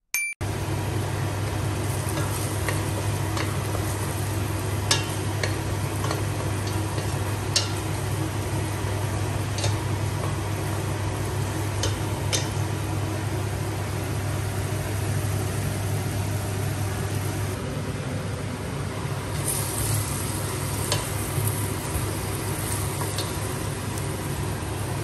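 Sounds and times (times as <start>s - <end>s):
onion sizzling in oil: 0.5s - 25.0s.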